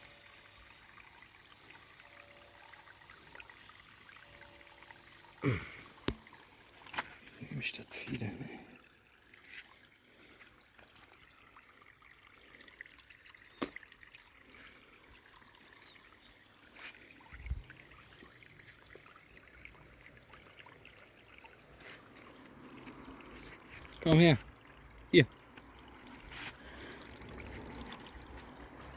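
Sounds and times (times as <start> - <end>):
faint trickling water: 0.0 - 28.9.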